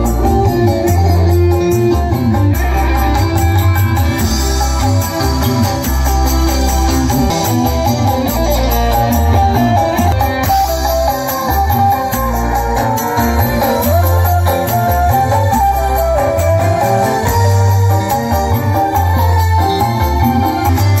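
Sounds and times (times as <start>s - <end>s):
loud music with heavy bass: 0.0s - 21.0s.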